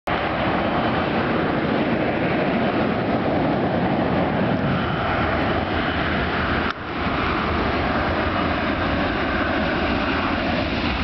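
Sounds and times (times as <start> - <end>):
jet engines at takeoff: 0.1 - 11.0.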